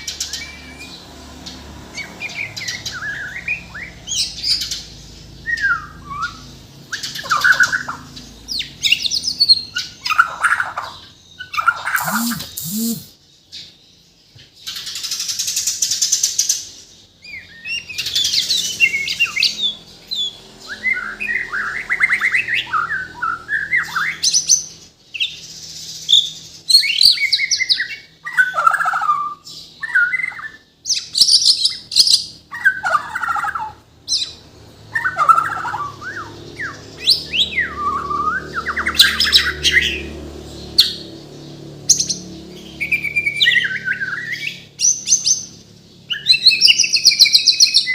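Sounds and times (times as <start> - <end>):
bird singing: 2.0 - 14.1, 16.9 - 47.9.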